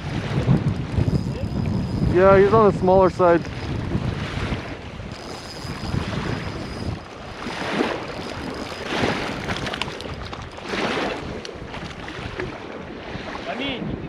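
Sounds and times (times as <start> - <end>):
wind gusting across microphone: 0.0 - 14.0.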